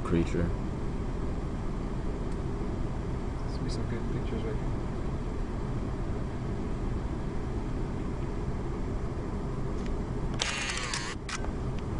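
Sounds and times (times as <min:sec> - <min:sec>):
low outdoor rumble: 0:00.0 - 0:11.9.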